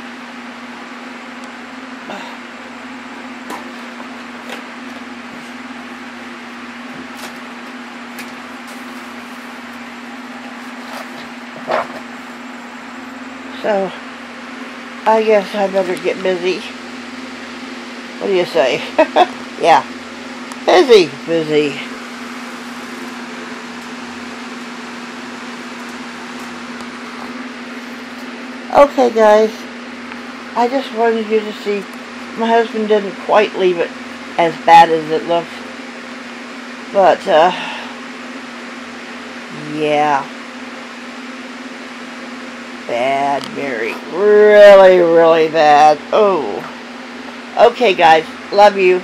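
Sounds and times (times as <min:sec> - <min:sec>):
electric fan whooshing: 0:00.0 - 0:49.0
electric motor humming: 0:00.0 - 0:49.0.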